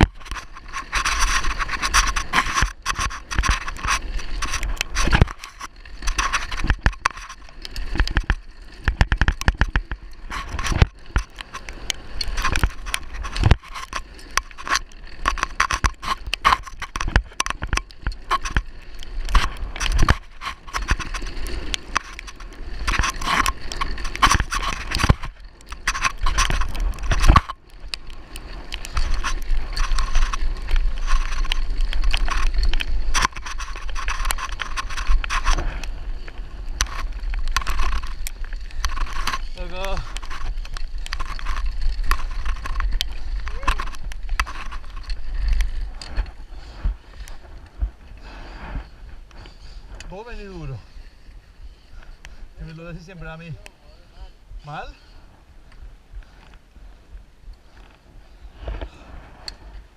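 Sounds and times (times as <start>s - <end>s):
tyres crunching over gravel: 0.0s - 53.8s
bike rattling over bumps: 0.0s - 59.9s.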